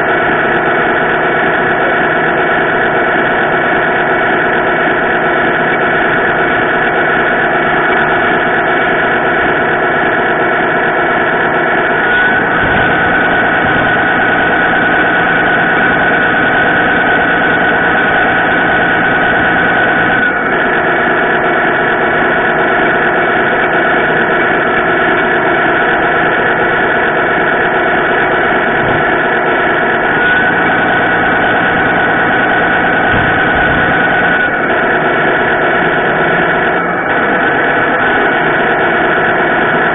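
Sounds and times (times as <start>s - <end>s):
model truck motor drone: 0.0s - 39.9s.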